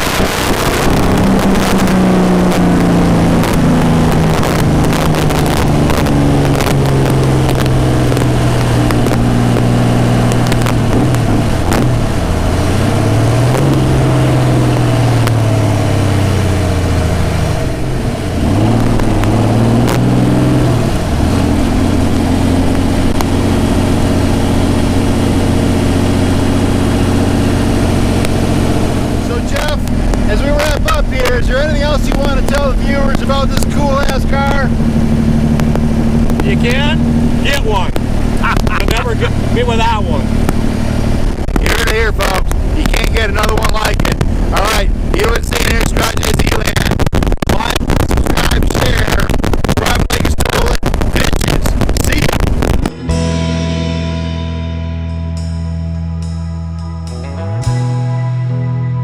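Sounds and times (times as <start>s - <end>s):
racing boat engine running: 0.0s - 58.3s.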